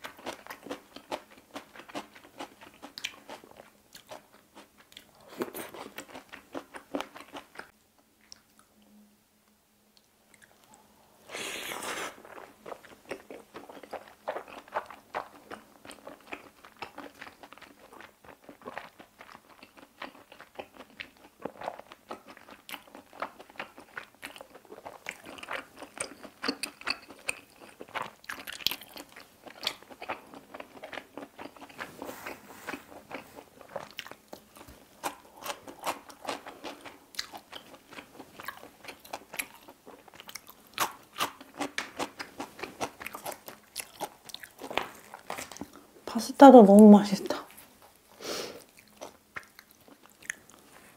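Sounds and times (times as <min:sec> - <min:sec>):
chewing pasta: 0:00.0 - 0:08.9, 0:10.0 - 0:45.9, 0:47.4 - 0:50.9.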